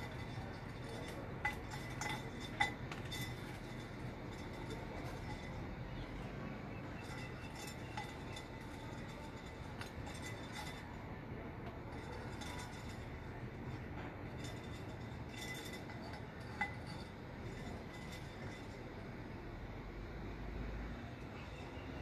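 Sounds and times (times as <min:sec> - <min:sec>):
clinks and scrapes in flower pot: 0:00.0 - 0:19.6, 0:21.2 - 0:22.0
low outdoor hum: 0:00.0 - 0:22.0.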